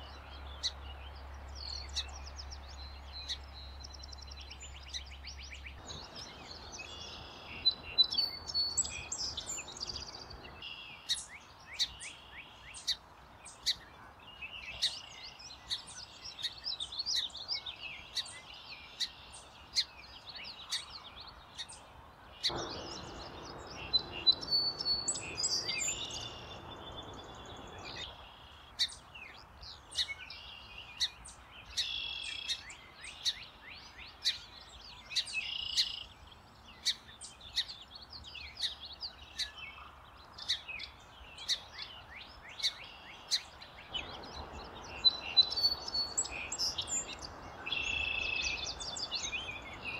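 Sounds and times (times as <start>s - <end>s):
sparrow singing: 0.0s - 49.9s.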